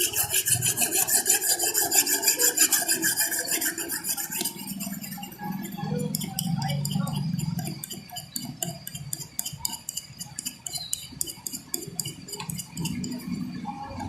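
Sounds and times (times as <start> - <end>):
metal tool scraping: 0.0 - 13.5.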